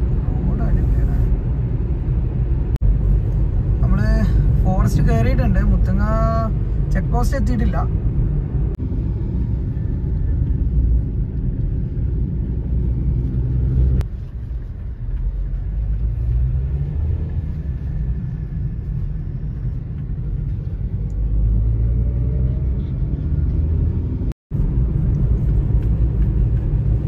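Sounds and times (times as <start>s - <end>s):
car engine and tyres rumble: 0.0s - 27.0s.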